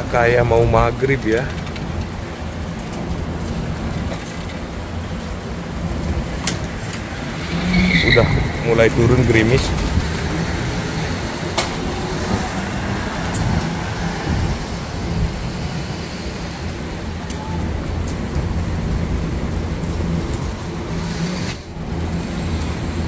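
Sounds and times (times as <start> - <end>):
road traffic engine hum: 0.0 - 23.0.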